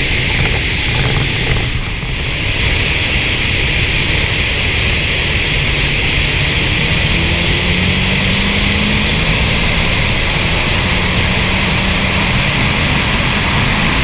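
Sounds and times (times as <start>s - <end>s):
engine and tyre rumble: 0.0s - 14.0s
wind rushing over camera: 0.0s - 14.0s.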